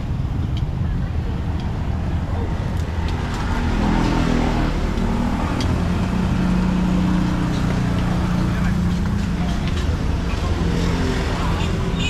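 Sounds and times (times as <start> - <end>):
vehicle engine running: 0.0 - 10.6
street traffic noise: 0.0 - 12.0.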